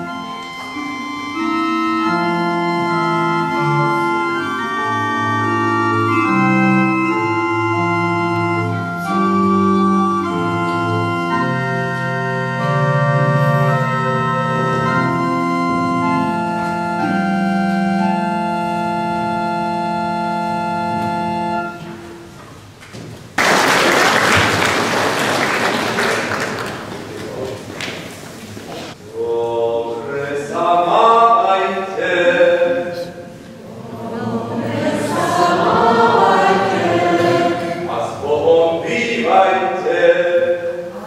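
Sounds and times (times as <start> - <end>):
pipe organ playing chords: 0.0 - 22.8, 29.0 - 41.0.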